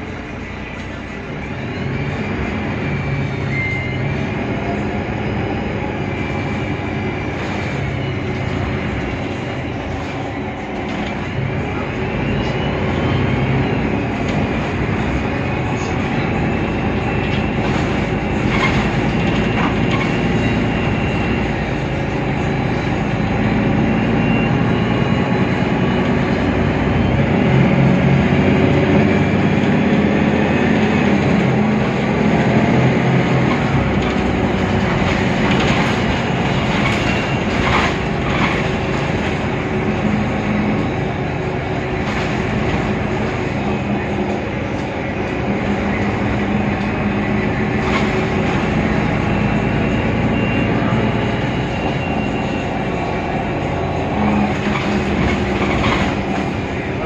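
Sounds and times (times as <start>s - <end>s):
bus diesel engine running: 0.0s - 57.0s
continuous rumble: 0.0s - 57.0s.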